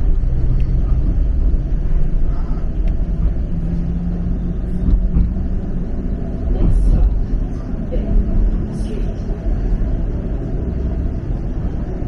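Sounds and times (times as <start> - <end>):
streetcar rumbling on track: 0.0 - 12.0.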